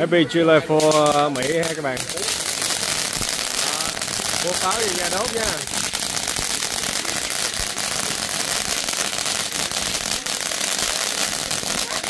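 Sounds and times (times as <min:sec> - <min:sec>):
fireworks hissing: 0:00.0 - 0:12.0
fast sharp crackles: 0:00.8 - 0:12.0.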